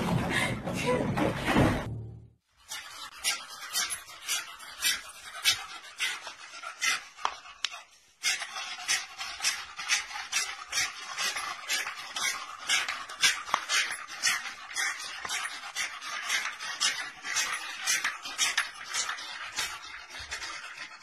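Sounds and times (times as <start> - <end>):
dog panting hard: 2.6 - 21.0.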